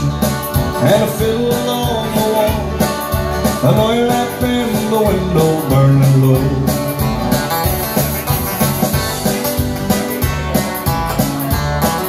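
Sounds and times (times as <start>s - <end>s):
electric guitar: 0.0s - 12.0s
keyboard backing track: 0.0s - 12.0s
steady drum beat: 0.0s - 12.0s.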